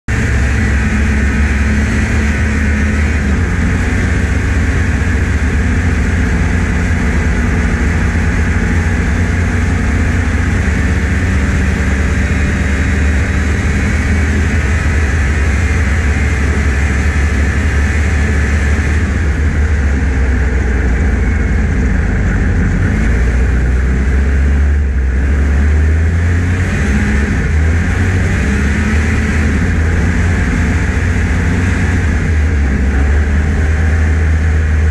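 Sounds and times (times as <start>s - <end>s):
snowmobile engine running: 0.1s - 34.9s.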